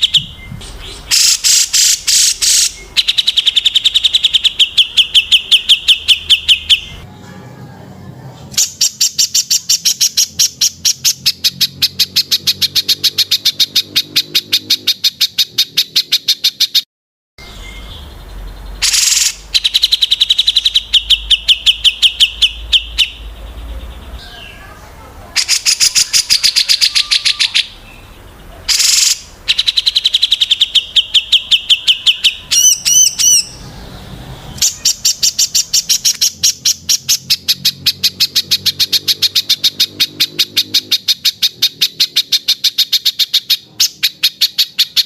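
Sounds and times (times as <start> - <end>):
songbirds chirping rapidly: 0.0 - 7.3, 8.1 - 16.8, 17.4 - 45.0.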